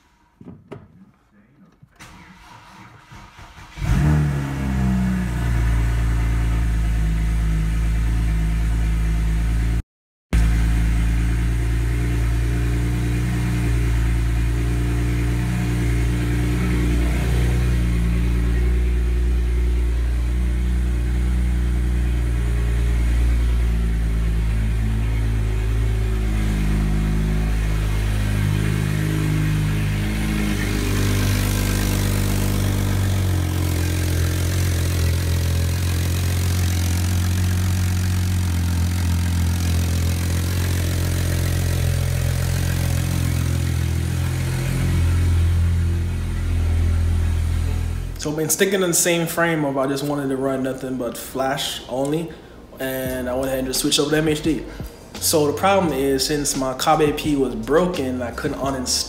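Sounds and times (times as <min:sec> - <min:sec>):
car engine starting and idling: 0:00.0 - 0:09.8, 0:10.4 - 0:59.0.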